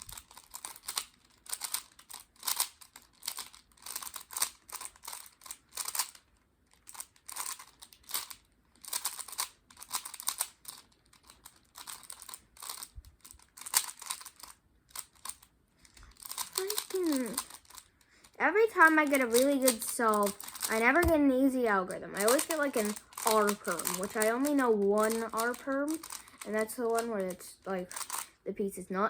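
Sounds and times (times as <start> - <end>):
puzzle cube clicking: 0.0 - 28.3.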